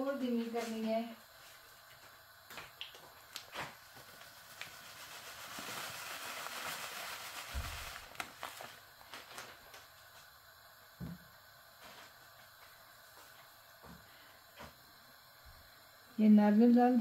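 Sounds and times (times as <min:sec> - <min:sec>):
hiss of falling powder: 0:02.4 - 0:17.0.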